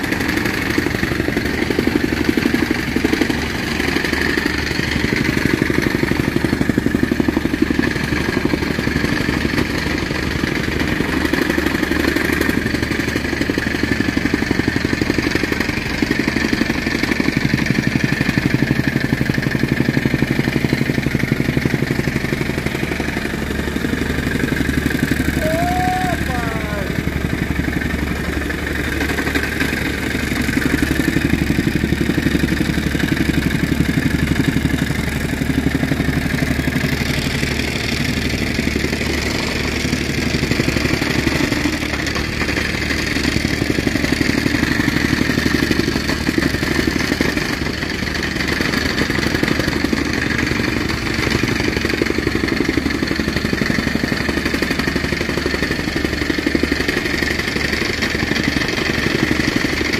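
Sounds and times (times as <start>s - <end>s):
soil compactor engine pounding: 0.0s - 59.9s.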